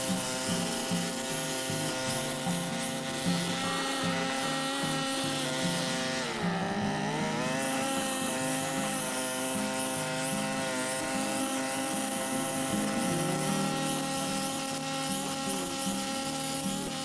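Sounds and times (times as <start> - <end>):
brush cutter engine mowing grass: 0.0 - 17.0.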